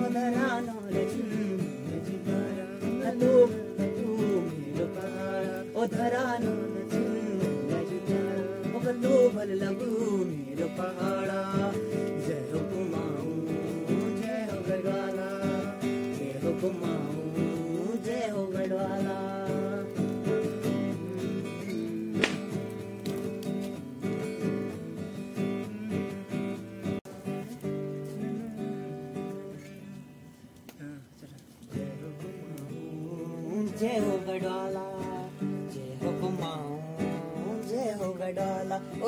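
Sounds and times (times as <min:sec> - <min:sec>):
man singing: 0:00.0 - 0:29.8, 0:30.8 - 0:39.0
acoustic guitar: 0:00.0 - 0:39.0.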